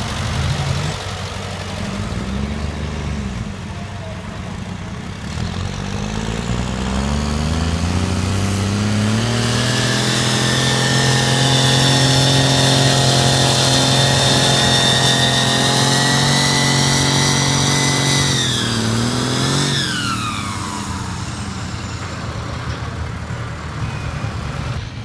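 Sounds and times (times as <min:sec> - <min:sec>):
tractor engine revving: 0:00.0 - 0:25.0.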